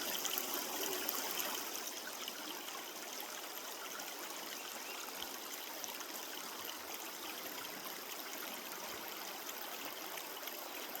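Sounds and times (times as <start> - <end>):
creek water trickling over stones: 0.0 - 11.0.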